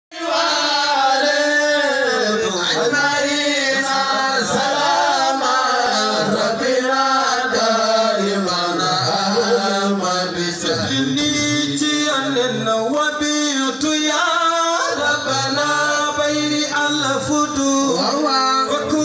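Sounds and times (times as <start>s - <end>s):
man chanting through microphone: 0.1s - 19.0s.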